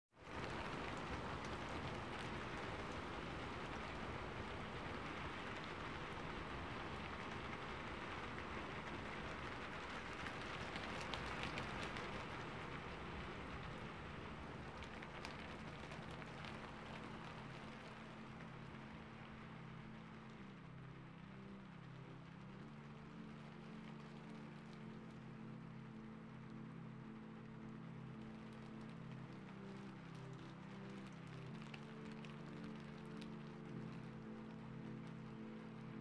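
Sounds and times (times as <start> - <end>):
single raindrops pattering: 0.1 - 36.0
steady rain falling: 0.1 - 36.0.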